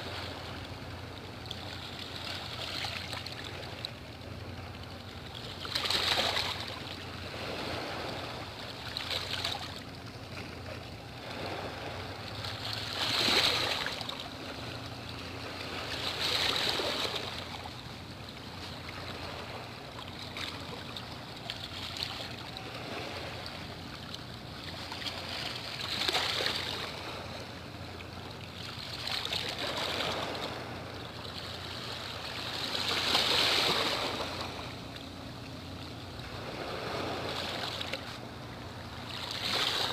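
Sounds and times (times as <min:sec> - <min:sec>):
sea water lapping at shore: 0:00.0 - 0:39.9.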